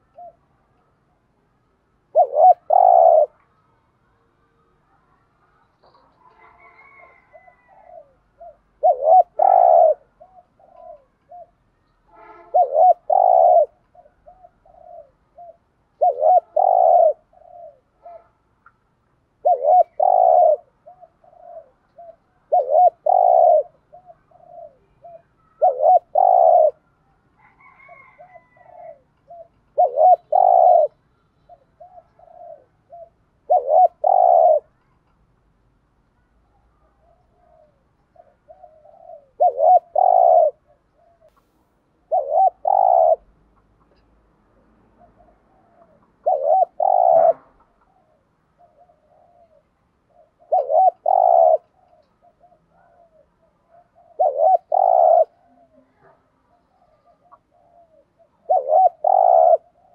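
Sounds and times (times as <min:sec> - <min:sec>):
dove cooing: 0:00.0 - 0:00.7, 0:02.0 - 0:03.4, 0:05.6 - 0:11.7, 0:12.5 - 0:18.2, 0:19.4 - 0:35.1, 0:36.5 - 0:44.0, 0:44.6 - 0:59.9.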